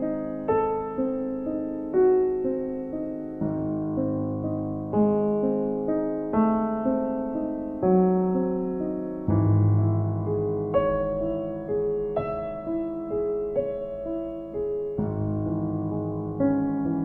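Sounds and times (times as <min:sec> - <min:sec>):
gentle solo piano: 0:00.0 - 0:17.0.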